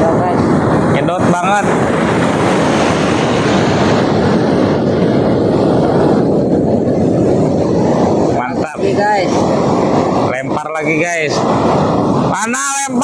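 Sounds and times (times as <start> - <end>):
loud rushing noise: 0.0 - 13.0.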